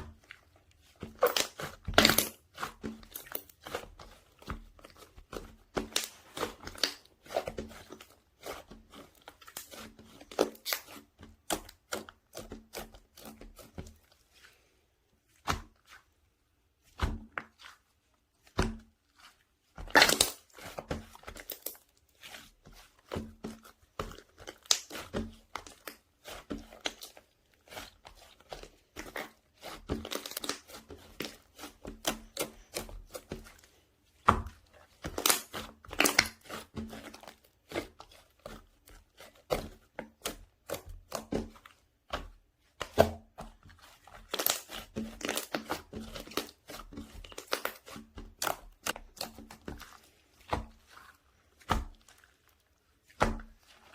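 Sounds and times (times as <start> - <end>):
hands squishing sticky slime: 0.0 - 53.9.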